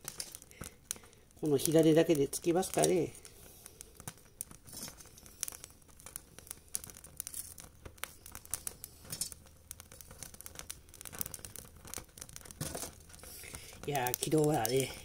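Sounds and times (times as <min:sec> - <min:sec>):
kindling crackling and popping: 0:00.0 - 0:15.0.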